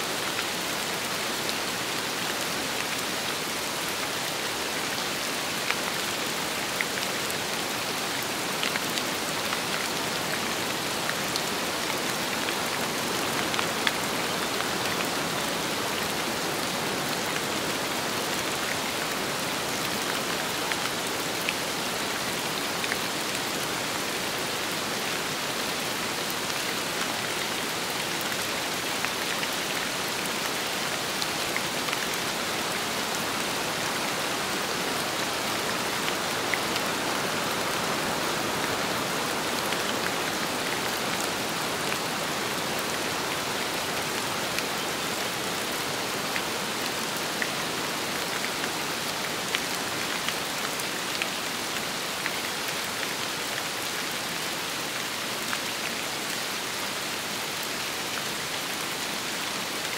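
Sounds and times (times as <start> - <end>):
rain falling: 0.0 - 59.9
wind: 0.0 - 59.9.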